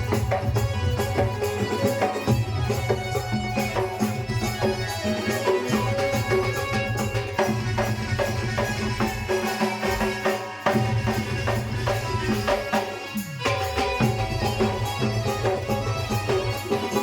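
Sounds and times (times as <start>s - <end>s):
rhythmic drum beat: 0.0s - 17.0s
sustained melodic instruments: 0.0s - 17.0s.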